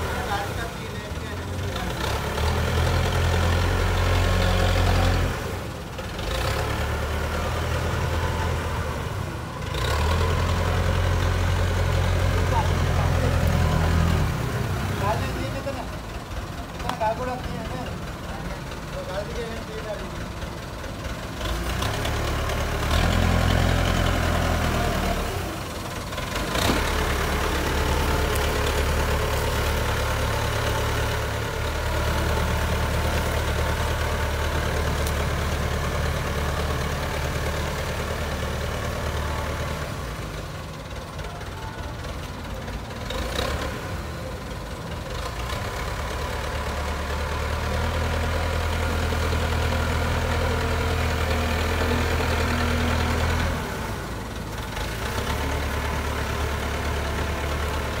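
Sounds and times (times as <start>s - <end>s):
backhoe diesel engine working: 0.0s - 58.0s.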